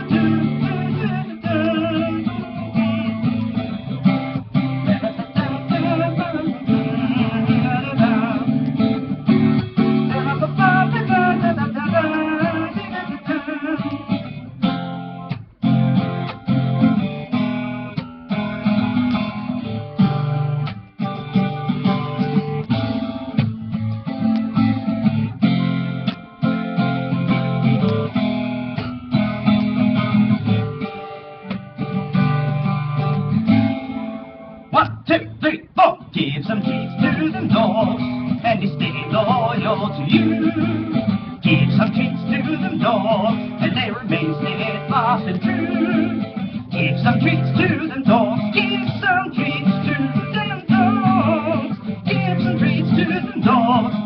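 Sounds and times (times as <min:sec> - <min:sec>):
strummed acoustic guitar: 0:00.0 - 0:54.0.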